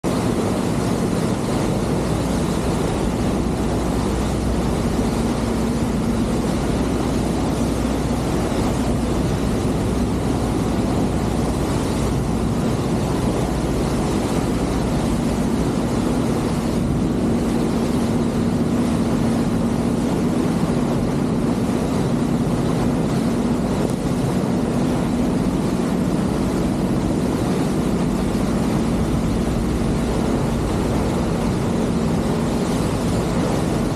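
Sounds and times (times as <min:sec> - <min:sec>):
water rushing along hull: 0:00.0 - 0:33.9
ferry engine drone: 0:00.1 - 0:33.9
wind on microphone: 0:00.1 - 0:33.9.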